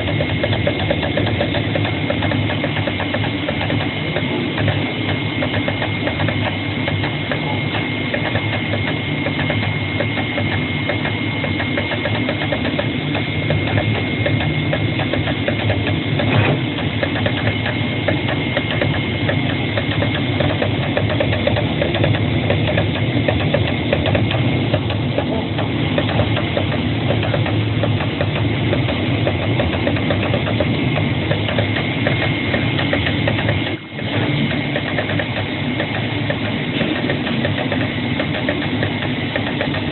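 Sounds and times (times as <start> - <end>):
constant high machine whine: 0.0 - 39.9
cutting head mechanical chatter: 0.0 - 39.9.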